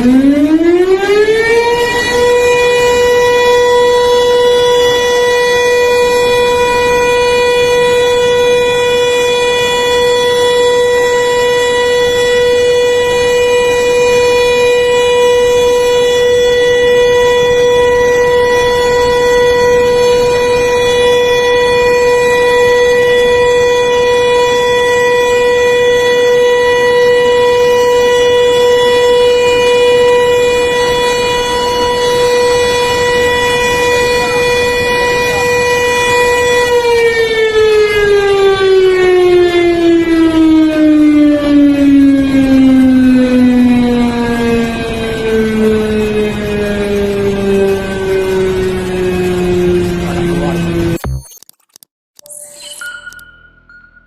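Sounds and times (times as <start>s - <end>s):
flood warning siren: 0.0s - 51.2s.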